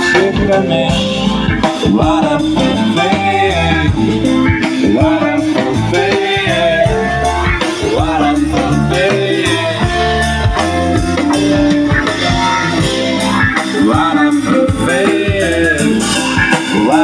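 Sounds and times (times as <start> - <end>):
acoustic guitar: 0.0 - 17.0
drum kit beat: 0.0 - 17.0
electric guitars: 0.0 - 17.0.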